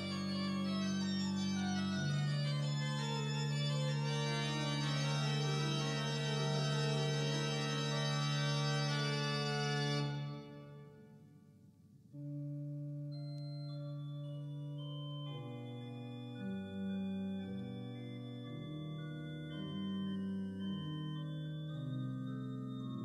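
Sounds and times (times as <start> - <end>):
organ playing slow chords: 0.0 - 11.0, 12.2 - 23.0.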